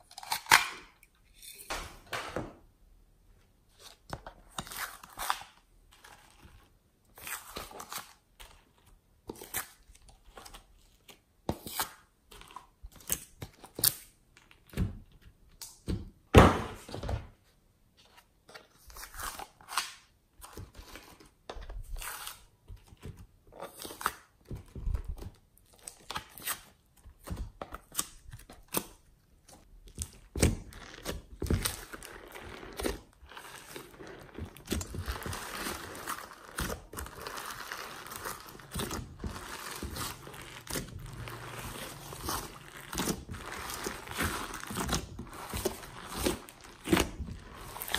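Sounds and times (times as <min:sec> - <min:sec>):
hands handling clay and slime: 0:00.2 - 0:47.9.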